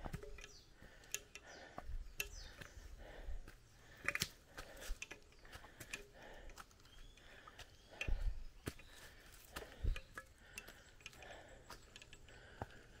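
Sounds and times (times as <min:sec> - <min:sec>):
sharp clicks and crackles: 0:00.1 - 0:02.8, 0:03.9 - 0:13.0.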